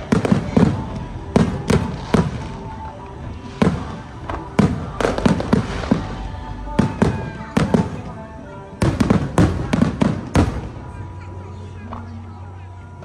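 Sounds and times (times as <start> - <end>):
fireworks booming: 0.0 - 11.2.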